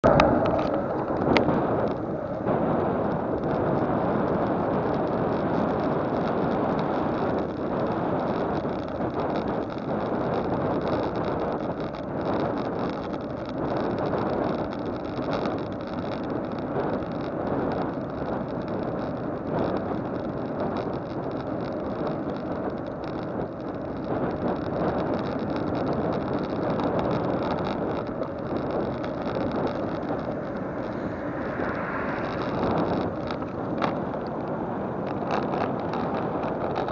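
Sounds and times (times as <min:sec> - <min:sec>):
road noise: 0:00.0 - 0:36.9
rushing wind: 0:00.0 - 0:36.9.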